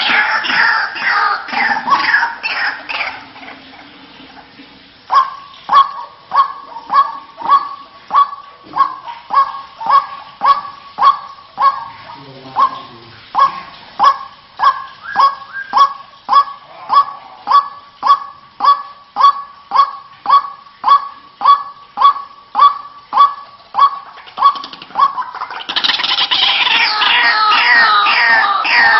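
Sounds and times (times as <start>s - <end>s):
bird honking call: 0.0s - 3.9s, 5.1s - 28.9s.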